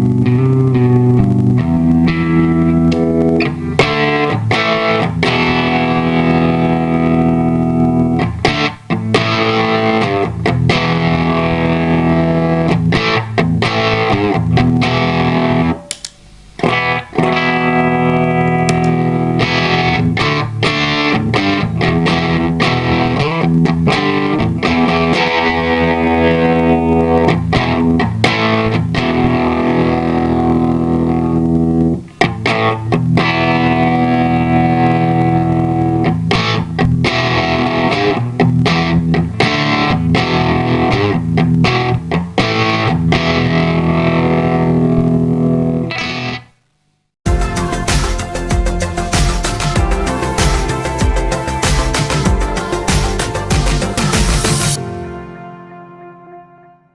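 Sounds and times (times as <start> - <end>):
electric guitar chords and riffs: 0.0 - 46.6, 47.2 - 56.9.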